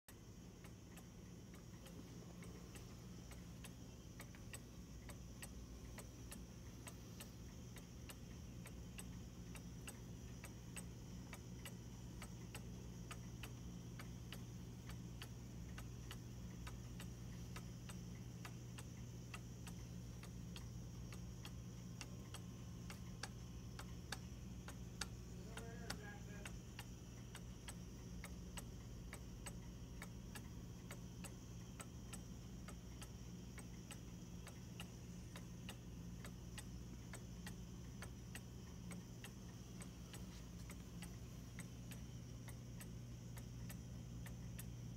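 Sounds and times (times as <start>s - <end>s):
clock ticking: 0.1s - 44.9s
low steady hum: 0.1s - 44.9s.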